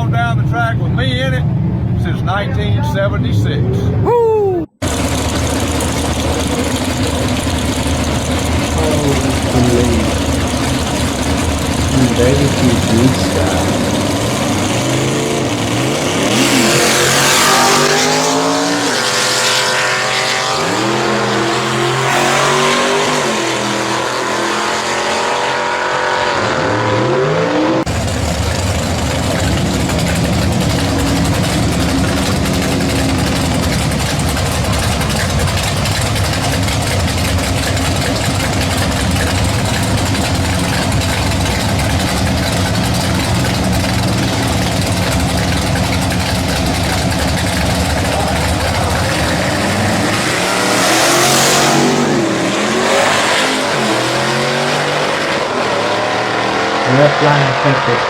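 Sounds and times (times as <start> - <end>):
engine running steadily: 3.4 - 26.5, 27.8 - 58.0
drag car engine revving: 4.8 - 58.0.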